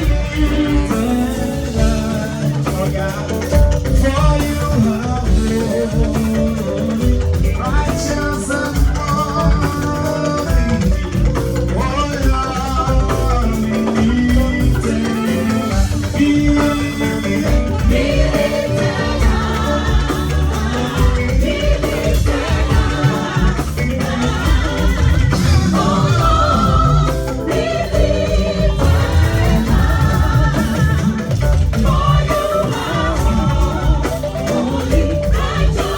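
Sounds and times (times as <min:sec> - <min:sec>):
band music with singing: 0:00.0 - 0:35.9
steady drum beat: 0:00.0 - 0:35.9.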